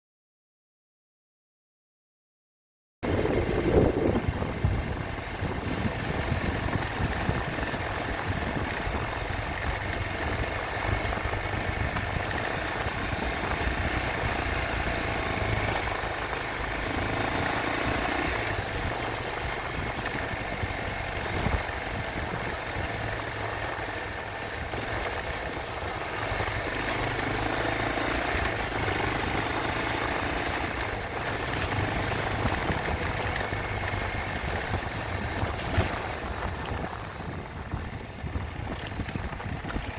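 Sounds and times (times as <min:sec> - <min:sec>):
motorcycle engine running: 0:03.0 - 0:39.9.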